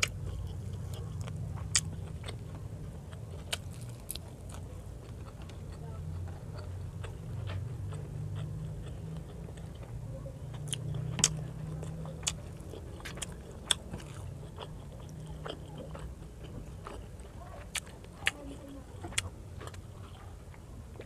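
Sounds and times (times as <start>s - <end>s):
chewing with wet clicks: 0.0s - 21.0s
steady low hum: 0.0s - 21.0s.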